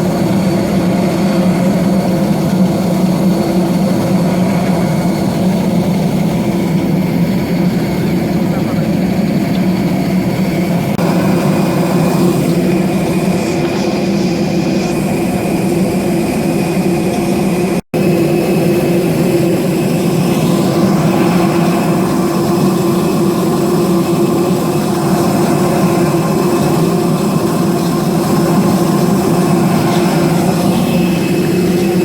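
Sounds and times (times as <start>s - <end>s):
jet engines droning: 0.0s - 32.0s.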